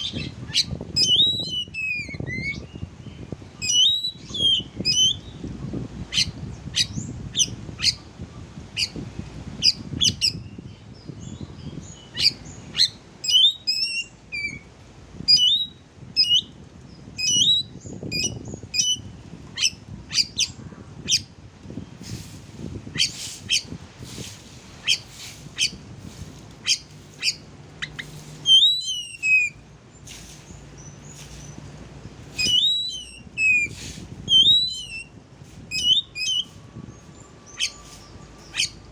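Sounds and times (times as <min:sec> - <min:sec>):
bird song with chirps and whistles: 0:00.0 - 0:05.5, 0:06.1 - 0:08.1, 0:08.8 - 0:09.0, 0:09.6 - 0:14.7, 0:15.3 - 0:22.0, 0:23.0 - 0:23.8, 0:24.8 - 0:25.8, 0:26.6 - 0:31.7, 0:32.3 - 0:38.9.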